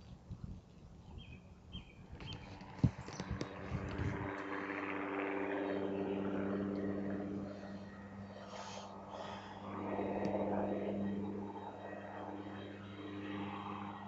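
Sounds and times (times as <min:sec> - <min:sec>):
distant helicopter drone: 0:01.1 - 0:14.0.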